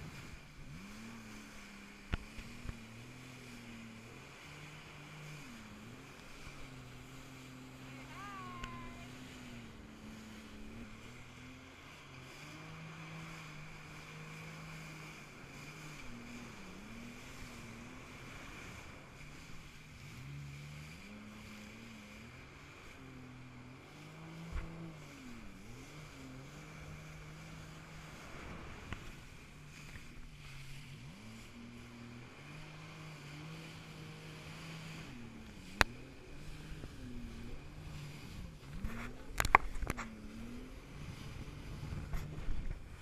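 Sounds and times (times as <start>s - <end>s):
jet ski engine running: 0.0s - 43.0s.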